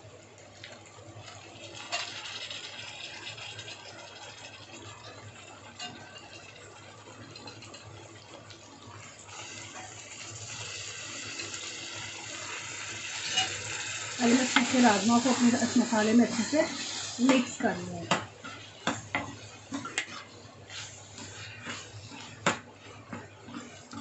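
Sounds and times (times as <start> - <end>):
masala sizzling in a pan: 0.0 - 24.0.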